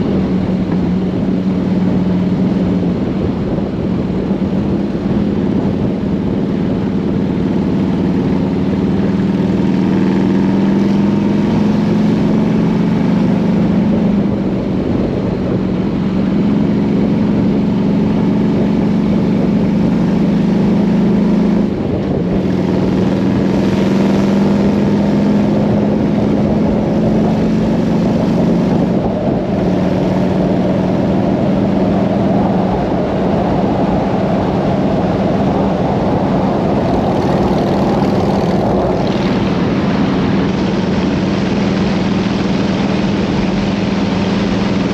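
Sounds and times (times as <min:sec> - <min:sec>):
motorcycle engine running: 0:00.0 - 0:44.9
wind rush: 0:00.0 - 0:44.9.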